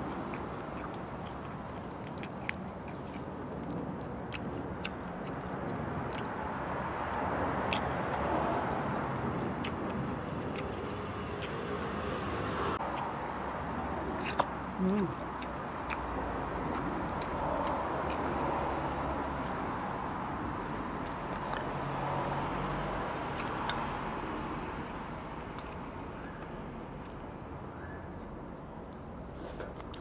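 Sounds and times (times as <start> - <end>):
chewing: 0.0 - 20.1, 21.0 - 22.0, 23.2 - 24.2, 25.3 - 27.3, 28.5 - 30.0.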